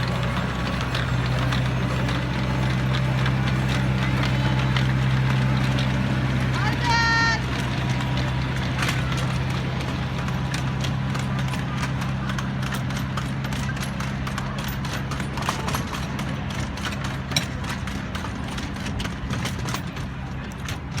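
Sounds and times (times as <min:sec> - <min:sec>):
miniature train humming: 0:00.0 - 0:21.0
wheels clicking over rails: 0:00.0 - 0:21.0.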